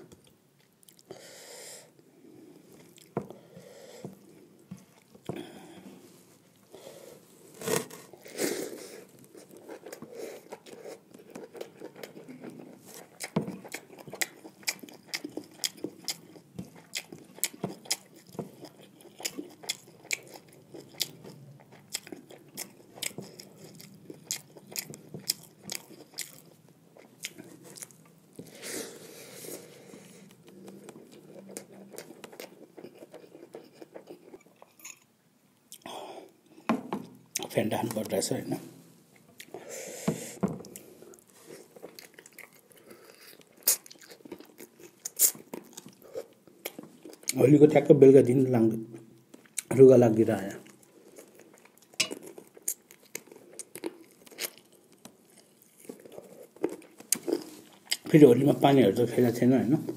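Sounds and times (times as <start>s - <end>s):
person chewing food: 0.0s - 1.1s, 2.2s - 38.1s, 39.2s - 47.4s, 49.0s - 49.7s, 50.6s - 58.1s.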